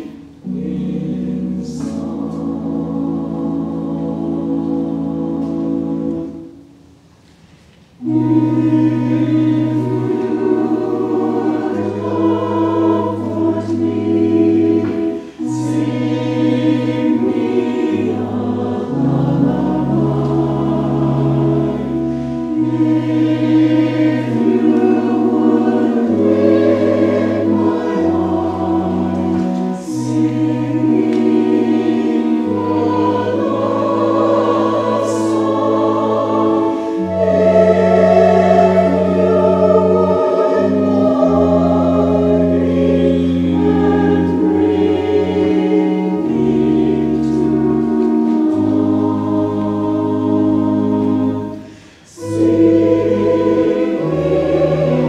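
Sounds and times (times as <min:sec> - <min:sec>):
choir singing: 0:00.0 - 0:06.7, 0:08.0 - 0:55.0
organ notes: 0:00.0 - 0:55.0.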